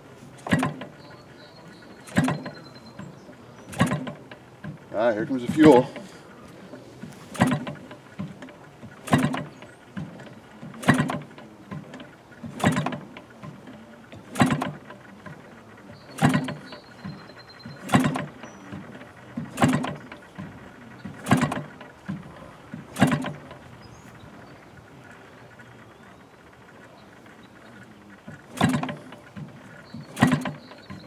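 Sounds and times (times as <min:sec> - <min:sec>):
model engine turning over: 0:00.0 - 0:01.0, 0:01.7 - 0:31.0.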